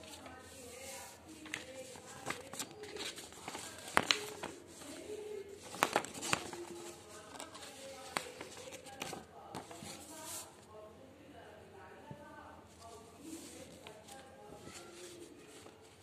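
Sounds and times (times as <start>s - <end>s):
paper crinkles: 0.0s - 10.6s, 12.8s - 16.0s.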